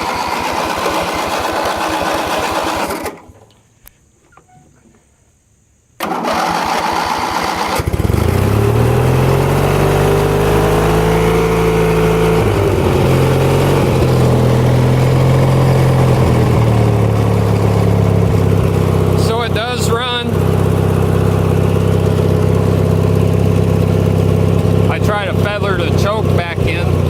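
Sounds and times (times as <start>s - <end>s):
mower engine running: 0.0s - 3.4s, 6.0s - 27.0s
starter cranking engine: 0.0s - 3.4s, 6.0s - 9.3s, 10.2s - 27.0s.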